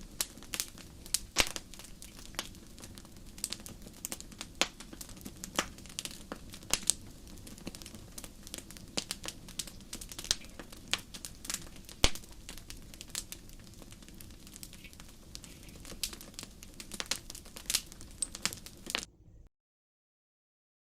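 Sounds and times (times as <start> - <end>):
fire crackling and popping: 0.0 - 19.1
fire rumbling: 0.0 - 19.1.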